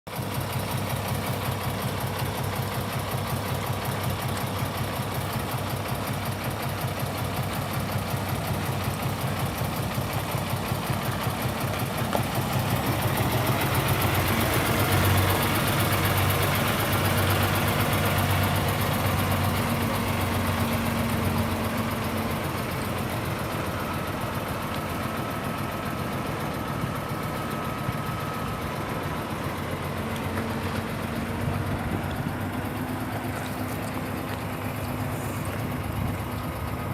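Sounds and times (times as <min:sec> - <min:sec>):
truck diesel engine idling: 0:00.1 - 0:36.9.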